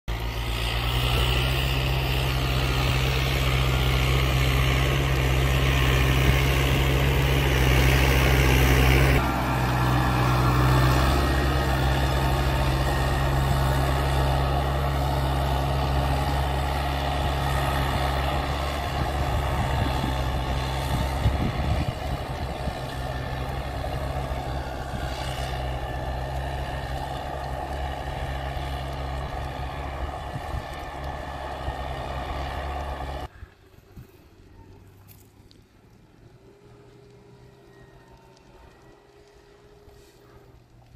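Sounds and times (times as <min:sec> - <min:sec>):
diesel engine running: 0:00.0 - 0:33.3.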